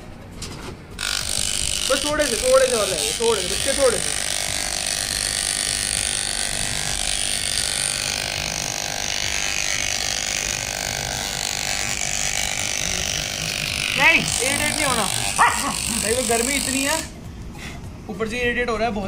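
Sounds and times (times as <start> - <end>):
electric hair clipper running: 1.0 - 17.2.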